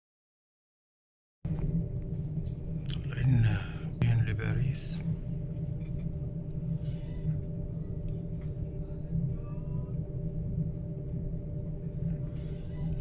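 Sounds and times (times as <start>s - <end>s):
electrical hum: 1.5s - 13.0s
train low rumble: 1.5s - 13.0s.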